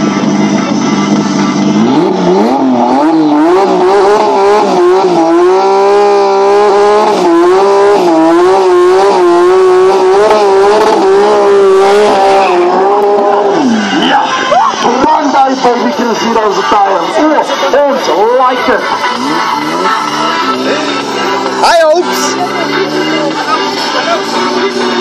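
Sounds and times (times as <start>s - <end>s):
drag car engine revving: 0.0s - 25.0s.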